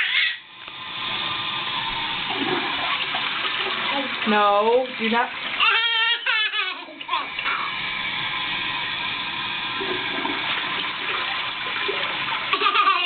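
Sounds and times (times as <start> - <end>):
toilet flushing: 0.0 - 13.0.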